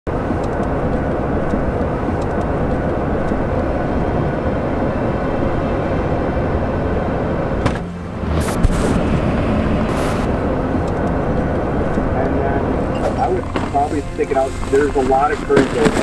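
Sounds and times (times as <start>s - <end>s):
road and engine noise in cab: 0.1s - 16.0s.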